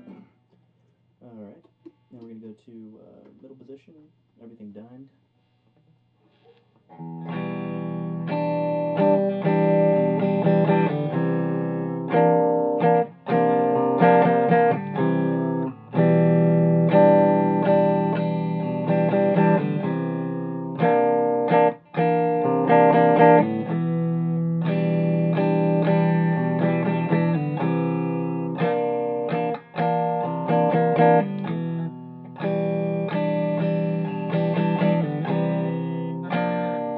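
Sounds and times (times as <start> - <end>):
electric guitar strumming chords: 6.9 - 36.9.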